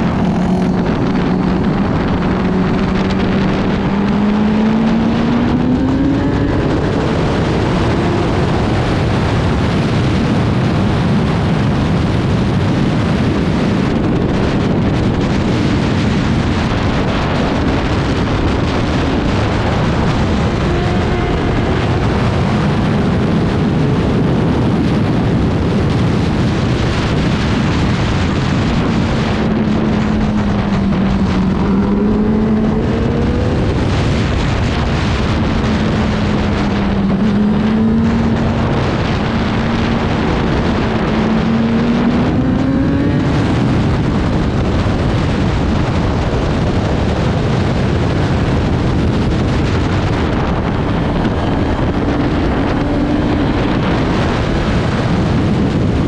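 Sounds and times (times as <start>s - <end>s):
racing motorcycle engine: 0.0s - 56.0s
wind rush on microphone: 0.0s - 56.0s.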